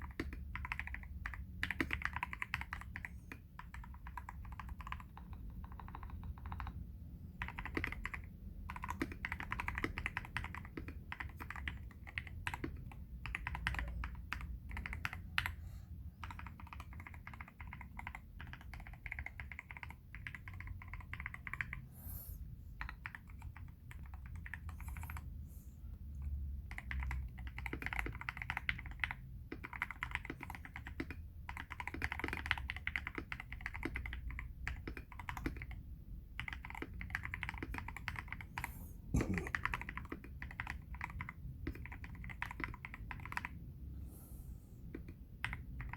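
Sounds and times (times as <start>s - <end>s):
typing on mechanical keyboard: 0.0s - 15.6s, 16.2s - 21.8s, 22.8s - 25.3s, 26.6s - 43.6s, 44.9s - 45.9s.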